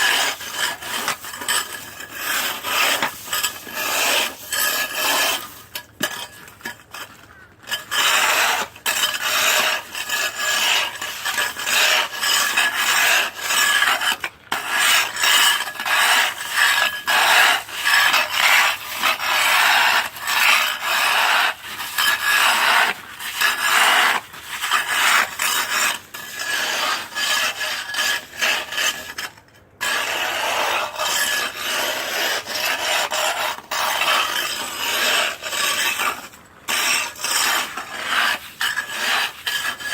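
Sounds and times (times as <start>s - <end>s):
ice scraping: 0.0s - 39.9s.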